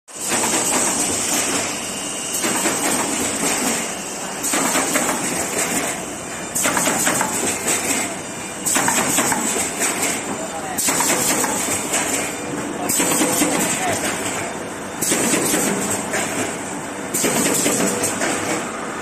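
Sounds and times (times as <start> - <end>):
machine clattering clicks and knocks: 0.2 - 1.7, 2.4 - 6.0, 6.6 - 18.7.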